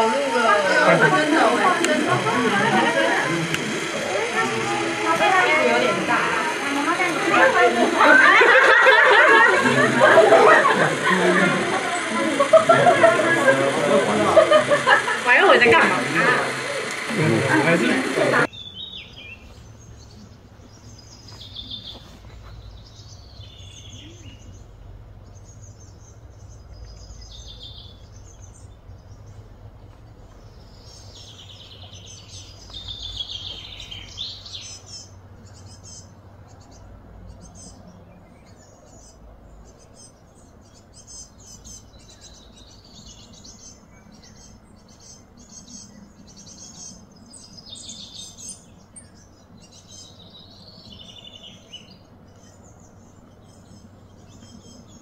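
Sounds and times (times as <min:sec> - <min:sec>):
birds chirping and calling: 0:00.0 - 0:55.0
low outdoor rumble: 0:00.0 - 0:55.0.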